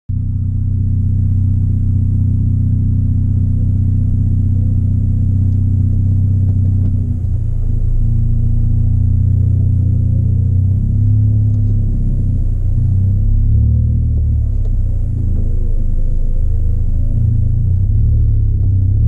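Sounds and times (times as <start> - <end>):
car engine idling: 0.1 - 19.0.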